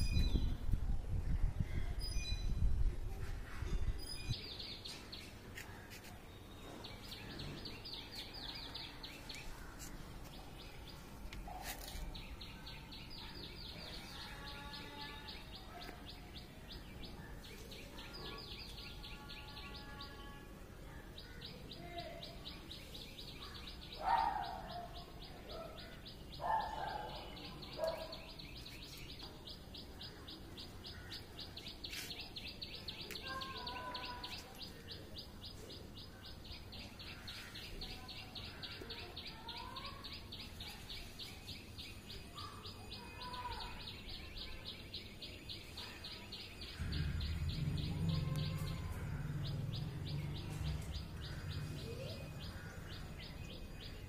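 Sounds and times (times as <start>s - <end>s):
birds chirping: 4.0s - 54.0s.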